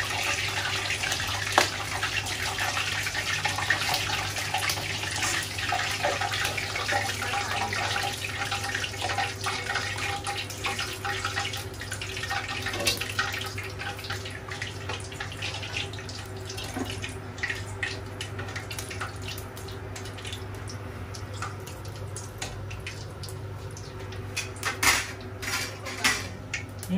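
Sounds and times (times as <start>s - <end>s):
meat deep-frying in oil: 0.0s - 26.9s.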